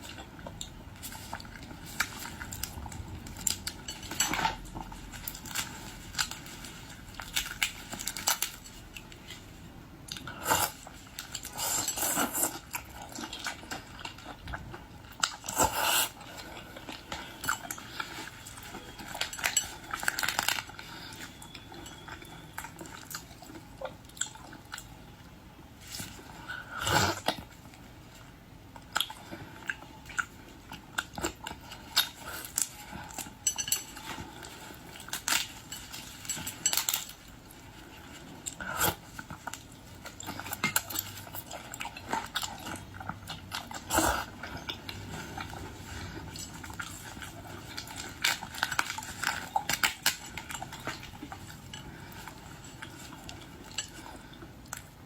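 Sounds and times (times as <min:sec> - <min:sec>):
crunching and chewing: 0:00.0 - 0:55.0.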